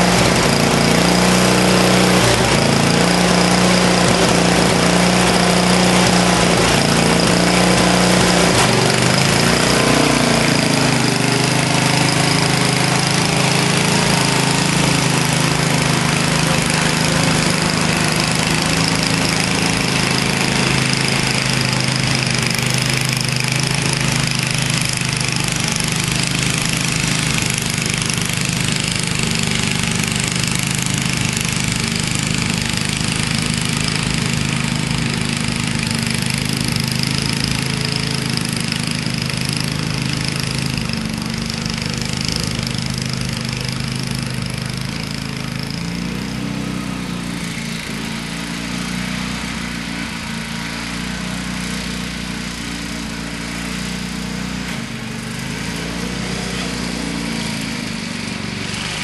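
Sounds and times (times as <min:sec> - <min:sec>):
snowblower engine running: 0:00.0 - 0:59.0.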